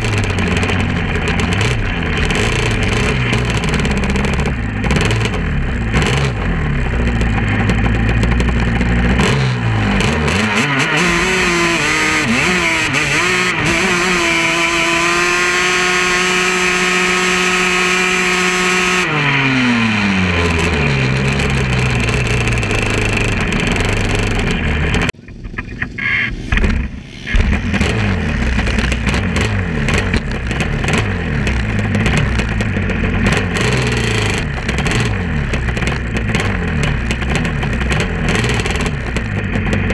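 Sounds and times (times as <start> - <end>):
quad engines revving: 0.0 - 25.2, 25.8 - 39.9.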